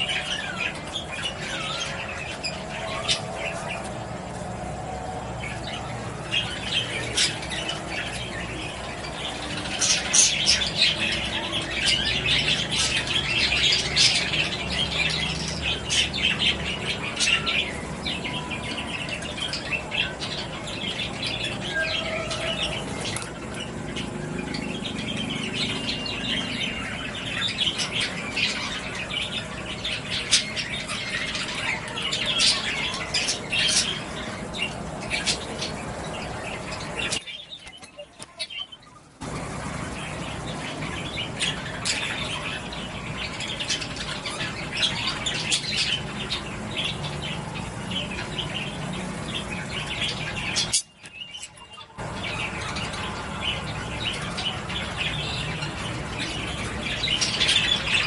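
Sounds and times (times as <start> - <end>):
budgerigars chattering: 0.0 - 4.4, 5.4 - 58.0.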